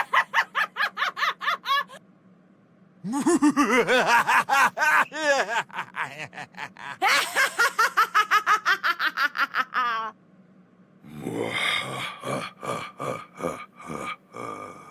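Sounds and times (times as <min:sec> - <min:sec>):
low laugh: 0:00.0 - 0:02.0, 0:03.0 - 0:10.1, 0:11.2 - 0:14.9.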